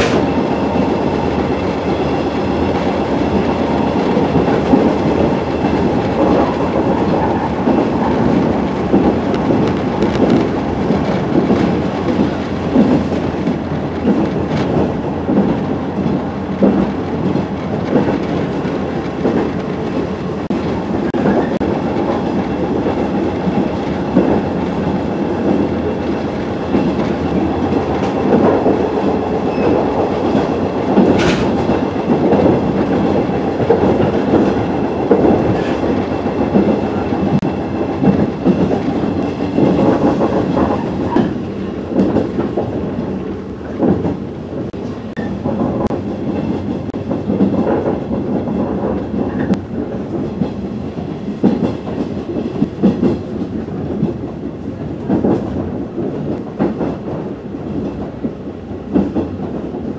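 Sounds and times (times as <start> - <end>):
clacks at rail joints: 0.0 - 59.9
train wheels rumbling on rail: 0.0 - 59.9.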